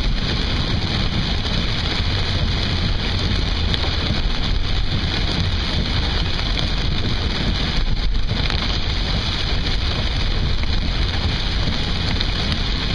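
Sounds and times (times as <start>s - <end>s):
low rumble: 0.0s - 12.9s
rain on car body: 0.0s - 12.9s
tyres on wet road: 0.0s - 12.9s.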